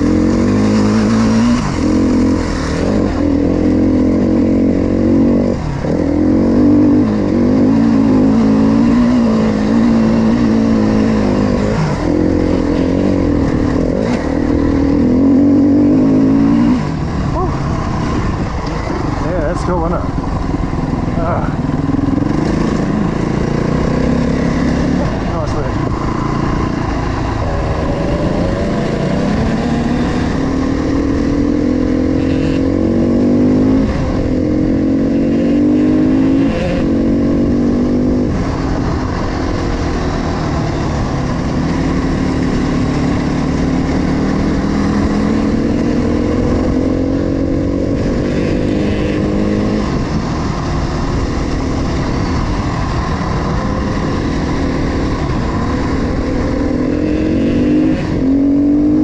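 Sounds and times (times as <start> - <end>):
dirt bike engine changing gears: 0.0 - 59.0.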